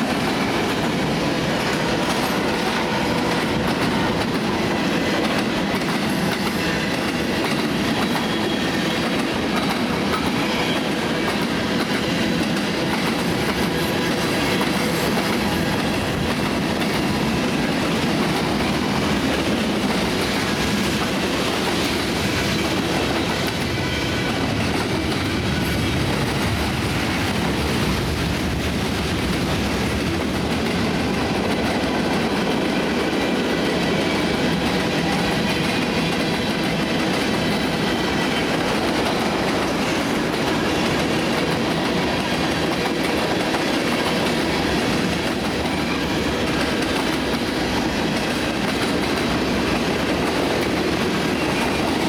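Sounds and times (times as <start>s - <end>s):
train wheels on rails: 0.0s - 52.0s.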